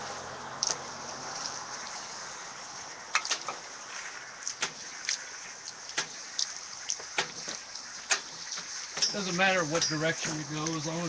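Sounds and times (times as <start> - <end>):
water spraying on glass: 0.0 - 11.0.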